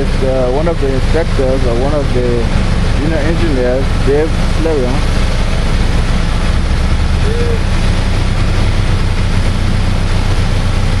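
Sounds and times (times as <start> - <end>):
bulldozer diesel engine drone: 0.0 - 11.0.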